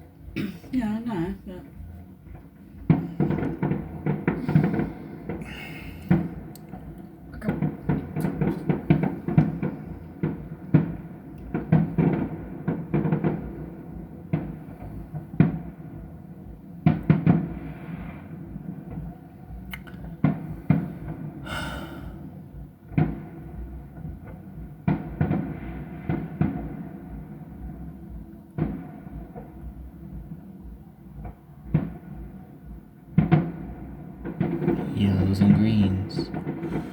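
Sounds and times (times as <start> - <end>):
distant fireworks bangs: 0.0 - 36.9.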